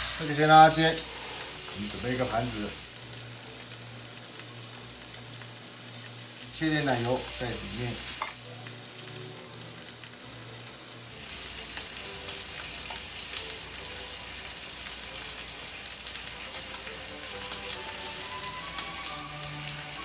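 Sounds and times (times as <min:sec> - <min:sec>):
meat sizzling in a frying pan: 0:00.0 - 0:20.0.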